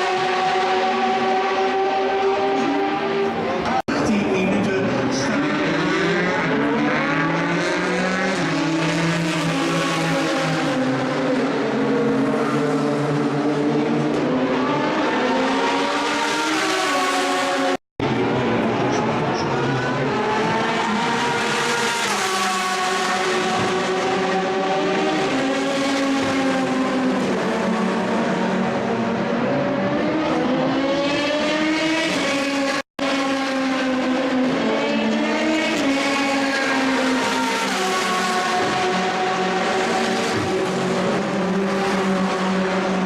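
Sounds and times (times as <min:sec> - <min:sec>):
race car engines: 0:00.0 - 0:43.0.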